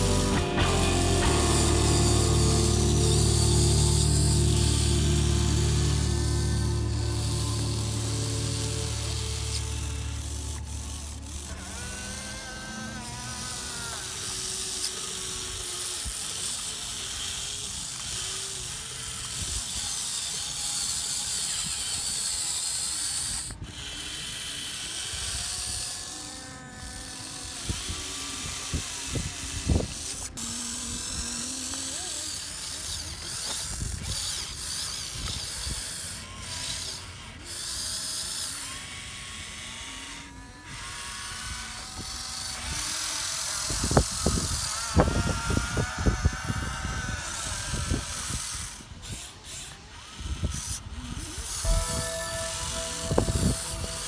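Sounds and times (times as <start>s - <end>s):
toy excavator motors whining: 0.0s - 54.0s.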